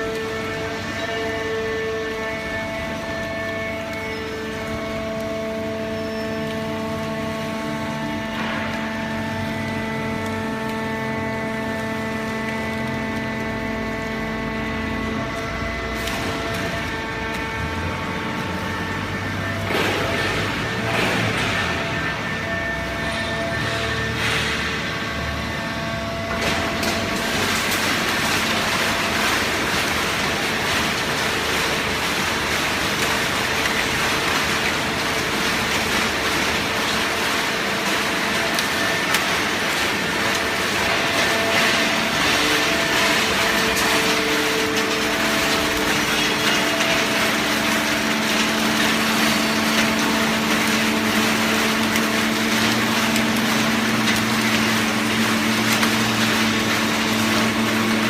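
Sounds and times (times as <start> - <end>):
baling press machine noise: 0.0 - 58.0
hydraulic pump hum: 0.0 - 58.0.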